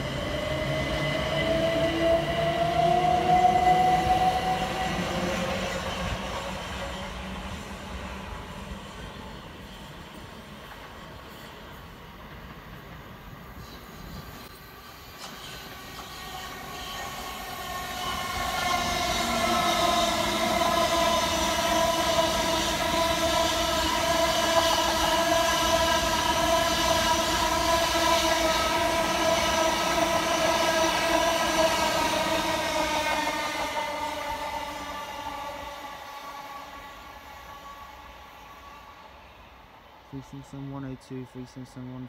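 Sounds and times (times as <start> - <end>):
train wheels rumbling on rails: 0.0 - 38.7
electric train whine: 0.0 - 42.0.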